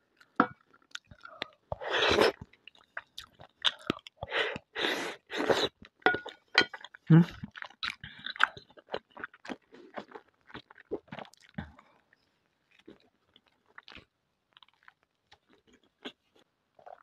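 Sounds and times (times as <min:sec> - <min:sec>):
biting and chewing crusty bread: 0:00.1 - 0:17.0.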